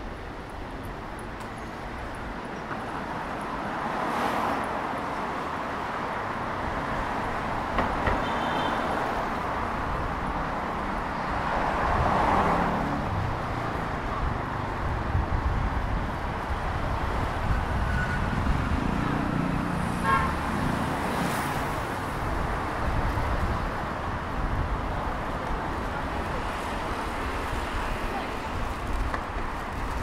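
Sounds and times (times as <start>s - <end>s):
road traffic noise: 0.0s - 30.0s
cars passing close by: 1.8s - 30.0s.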